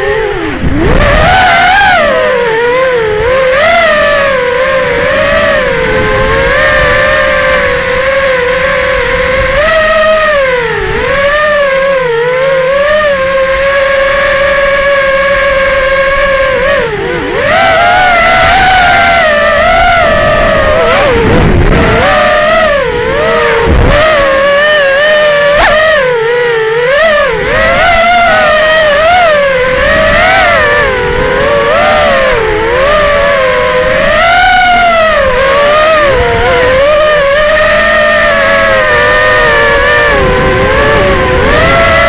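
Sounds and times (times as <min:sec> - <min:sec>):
quadcopter motors whining: 0:00.0 - 0:42.0.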